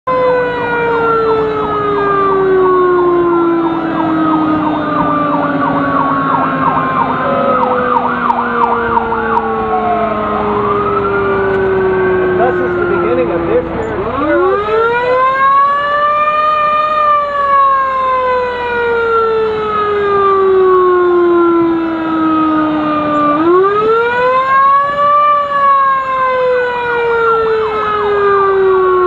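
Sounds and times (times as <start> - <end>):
emergency siren wailing slowly: 0.0 - 29.0
faint faster siren wailing: 0.1 - 29.0.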